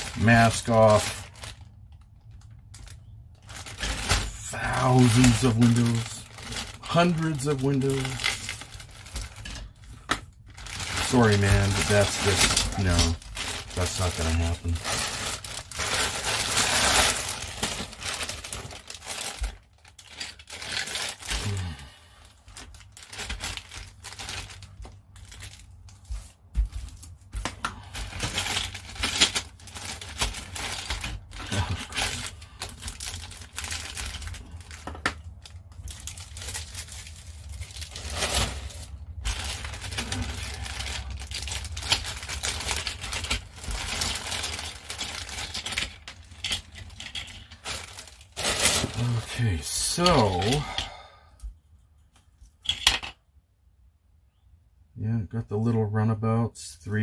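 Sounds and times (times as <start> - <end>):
plastic bags crinkling: 0.0 - 51.1.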